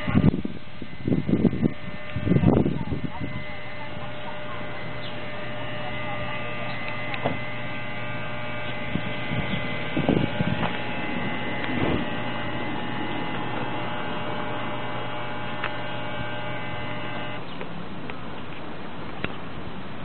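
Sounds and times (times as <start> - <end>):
steady hum of pitched tones: 0.0 - 20.0.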